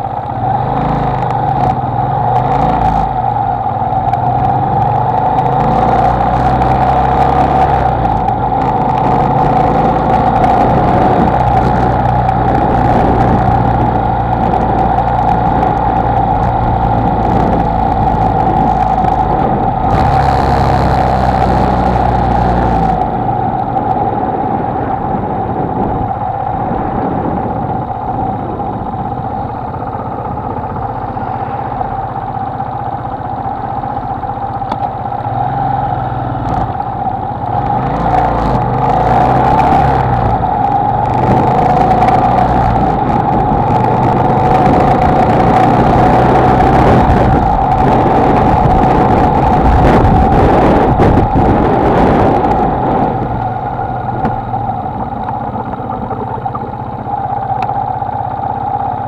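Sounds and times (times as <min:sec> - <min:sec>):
motorcycle engine running: 0:00.0 - 0:59.0
steady rushing noise: 0:00.0 - 0:59.0.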